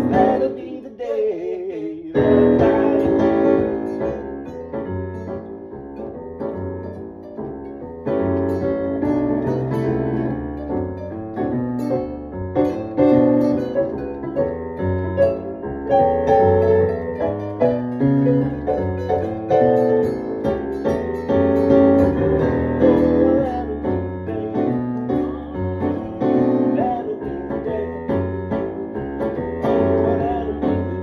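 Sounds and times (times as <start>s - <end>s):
keyboard music with piano chords: 0.0s - 0.8s, 2.2s - 31.0s.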